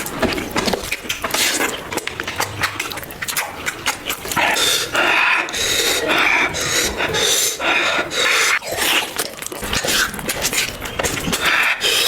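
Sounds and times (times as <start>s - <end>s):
noodle slurping: 0.0s - 12.0s.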